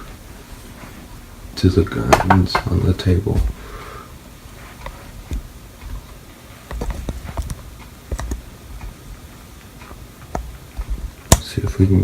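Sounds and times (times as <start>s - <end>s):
dull thumps: 1.8s - 12.0s.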